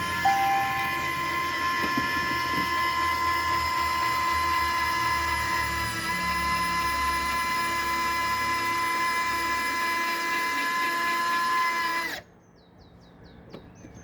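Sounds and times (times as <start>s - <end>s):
model plane motor whining: 0.0s - 12.2s.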